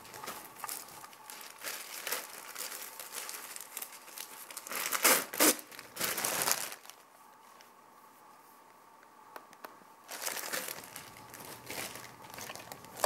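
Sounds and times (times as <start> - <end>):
crinkling and rustling: 0.0 - 7.8, 10.1 - 13.0.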